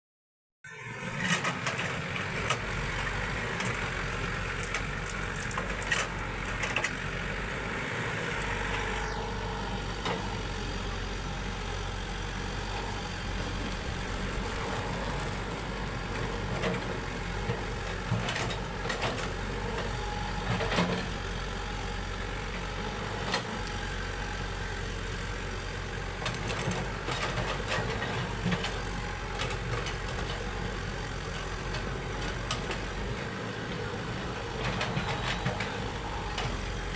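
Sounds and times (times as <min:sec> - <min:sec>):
diesel engine running: 0:00.8 - 0:36.9.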